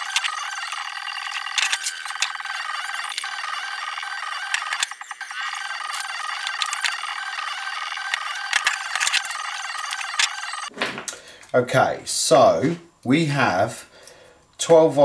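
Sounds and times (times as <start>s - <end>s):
steady high-pitched hum: 0.0s - 15.0s.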